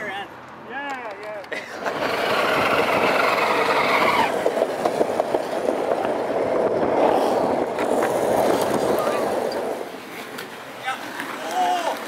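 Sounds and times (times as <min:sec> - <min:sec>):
wheels clacking over pavement cracks: 0:00.4 - 0:12.0
longboard wheels rumbling on asphalt: 0:01.2 - 0:12.0.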